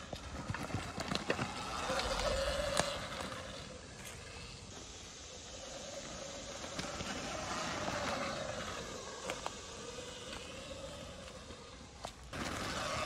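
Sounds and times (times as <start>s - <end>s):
electric motor and chain whine: 0.0s - 13.0s.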